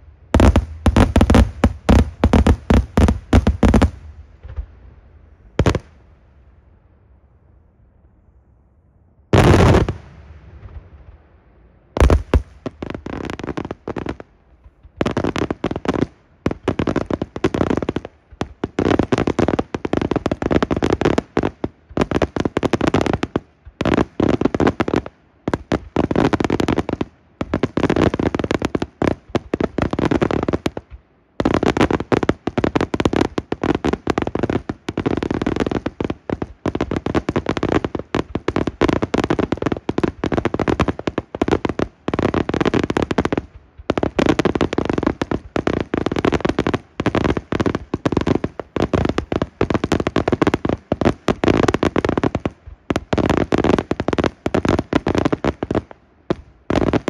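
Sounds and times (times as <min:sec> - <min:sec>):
fireworks bursting in volleys of bangs: 0:00.0 - 0:06.4, 0:09.3 - 0:57.0.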